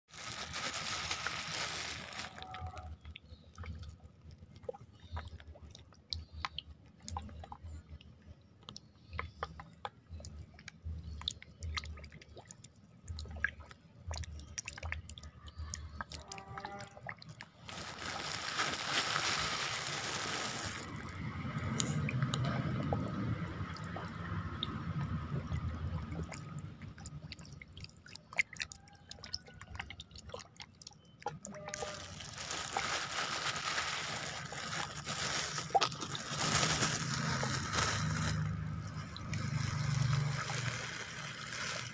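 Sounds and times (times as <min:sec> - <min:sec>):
water noise: 0:00.1 - 0:08.2, 0:09.1 - 0:41.9
fish gulping food at water surface: 0:00.6 - 0:41.9.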